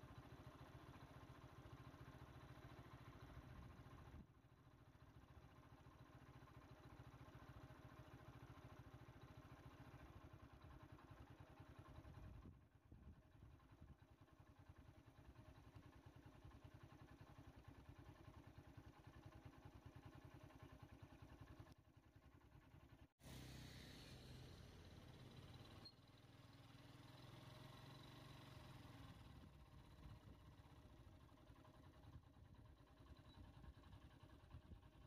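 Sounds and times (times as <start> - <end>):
faint engine idling: 0.0 - 35.0.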